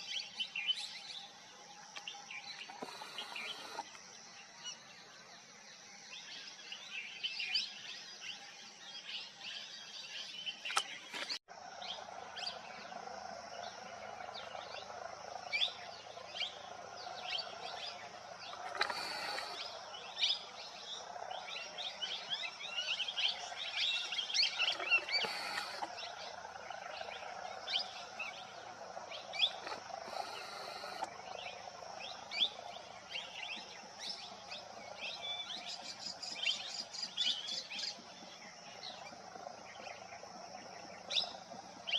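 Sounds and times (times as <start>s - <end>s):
many birds chirping: 0.0s - 41.9s.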